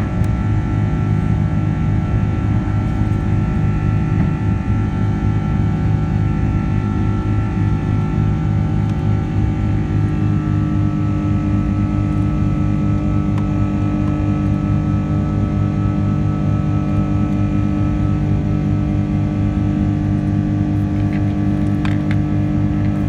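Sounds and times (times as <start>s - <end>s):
jet engine drone in cabin: 0.0s - 23.0s.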